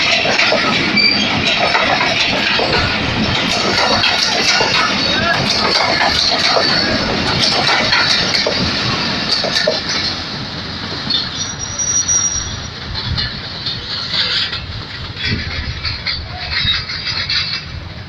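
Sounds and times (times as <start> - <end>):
train wheel squeal: 0.0 - 10.1, 11.0 - 18.0
train wheels clicking on rails: 0.0 - 18.0.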